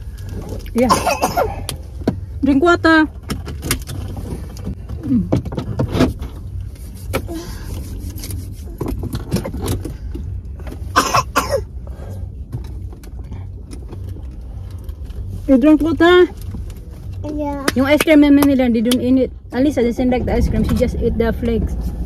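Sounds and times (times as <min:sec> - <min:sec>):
car interior low rumble: 0:00.0 - 0:22.0
knocks and rustles of people moving: 0:00.0 - 0:22.0.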